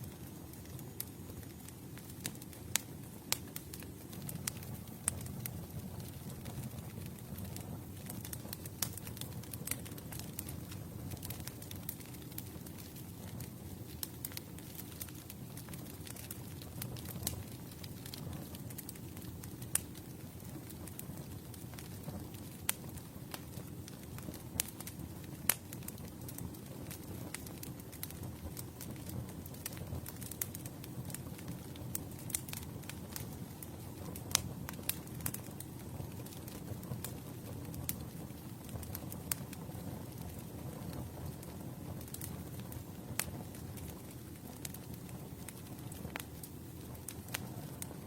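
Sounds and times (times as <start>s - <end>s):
burning wood crackling and popping: 0.0s - 48.0s
flames rumbling: 0.0s - 48.0s.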